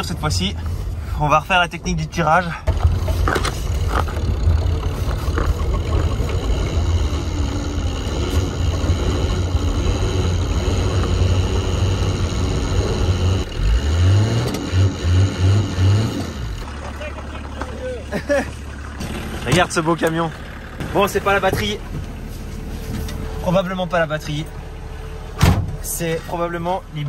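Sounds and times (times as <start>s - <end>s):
low rumble inside van cab: 0.0s - 27.0s.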